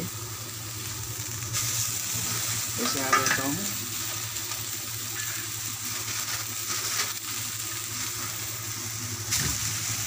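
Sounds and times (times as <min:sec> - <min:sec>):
noodles sizzling in a wok: 0:00.0 - 0:10.0.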